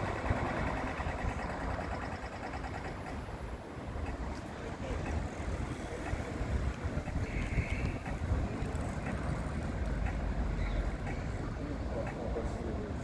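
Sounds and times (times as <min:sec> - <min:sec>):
wind buffeting microphone: 0:00.0 - 0:12.2
tram rumbling: 0:00.0 - 0:13.0.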